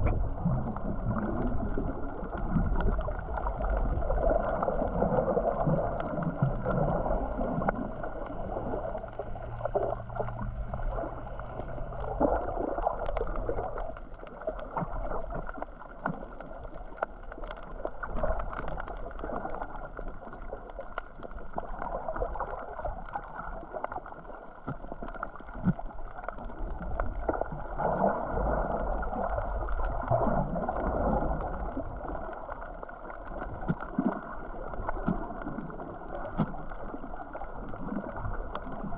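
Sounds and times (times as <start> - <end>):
muffled water sloshing and gurgling: 0.0 - 38.9.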